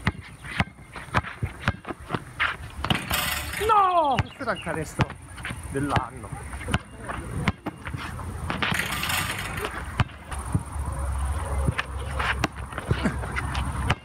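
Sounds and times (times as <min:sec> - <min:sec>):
basketball bouncing on court: 0:00.0 - 0:03.5, 0:04.1 - 0:10.7, 0:11.7 - 0:14.0.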